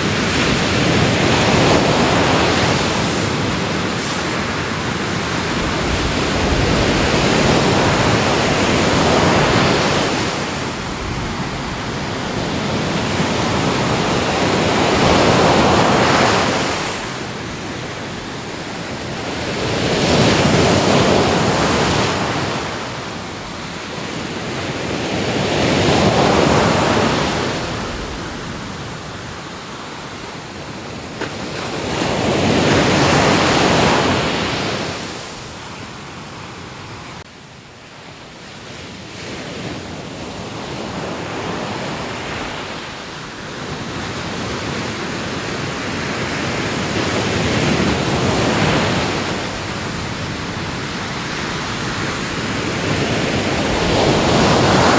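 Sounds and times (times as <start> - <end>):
ocean waves breaking: 0.0 - 37.2, 39.4 - 54.9.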